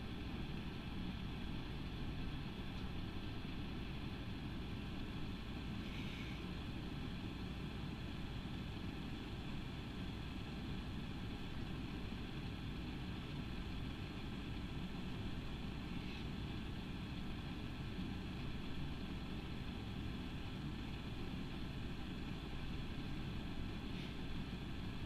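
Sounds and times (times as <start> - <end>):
low room noise rumble: 0.0 - 25.0.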